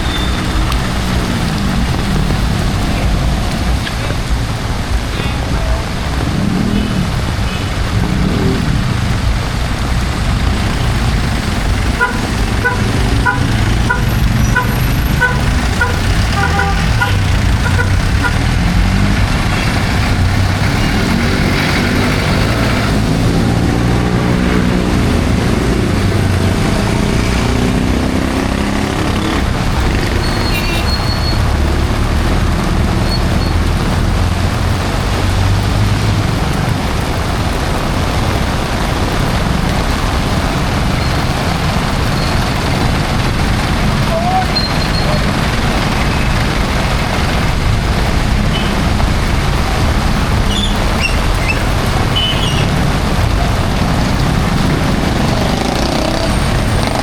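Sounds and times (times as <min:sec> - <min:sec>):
vehicle engine passing: 0:00.0 - 0:30.8, 0:31.4 - 0:57.0
heavy rain hissing: 0:00.0 - 0:57.0
tyres on wet street: 0:00.0 - 0:57.0.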